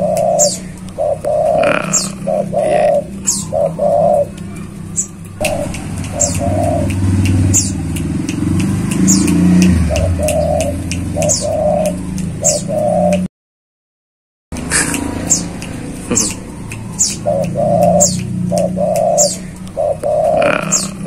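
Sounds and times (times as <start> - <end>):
dove cooing: 0.0 - 13.3, 14.6 - 21.0
high thin bird chirps: 0.0 - 13.3, 14.6 - 21.0.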